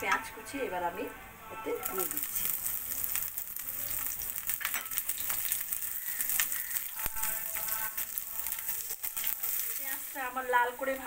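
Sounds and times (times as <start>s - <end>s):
onion sizzling in hot oil: 1.6s - 11.0s.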